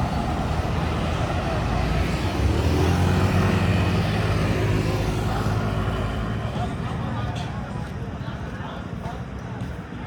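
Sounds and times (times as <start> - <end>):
street noise: 0.0 - 10.0.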